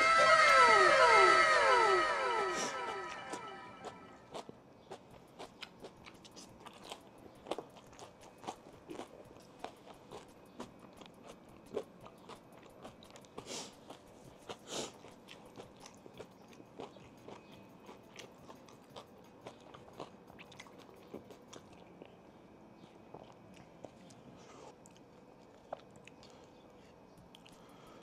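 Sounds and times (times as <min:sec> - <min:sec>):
person chewing crunchy chicken: 0:04.2 - 0:28.0.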